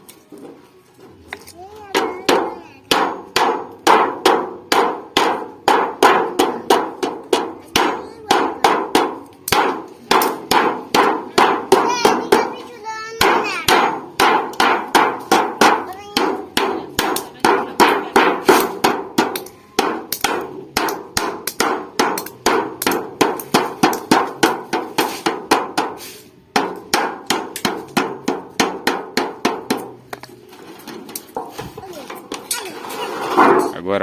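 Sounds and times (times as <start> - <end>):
hammer striking sheet metal: 1.9 - 33.8.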